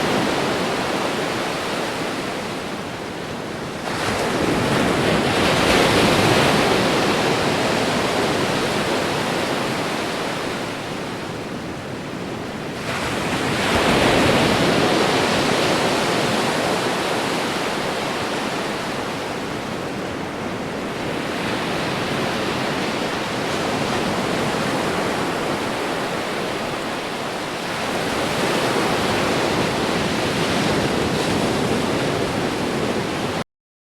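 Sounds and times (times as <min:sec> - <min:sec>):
ocean waves breaking: 0:00.0 - 0:11.5, 0:12.6 - 0:33.4.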